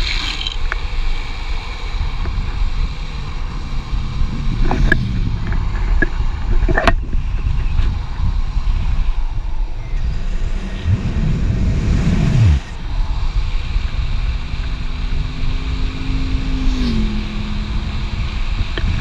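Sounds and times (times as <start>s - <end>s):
skateboard wheels rolling on asphalt: 0.0s - 19.0s
wind on microphone: 0.0s - 19.0s
passing car engine: 0.9s - 7.0s, 8.2s - 19.0s.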